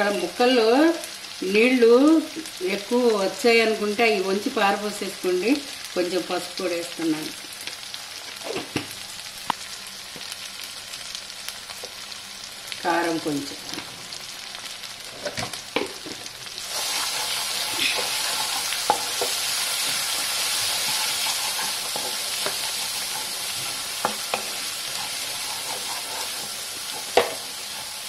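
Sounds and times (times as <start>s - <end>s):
spices sizzling in a pan: 0.0s - 28.0s.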